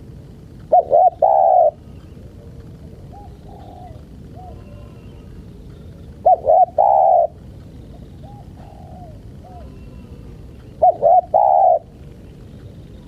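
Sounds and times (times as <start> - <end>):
dove cooing: 0.6 - 13.0
faint dove coos: 0.7 - 12.0.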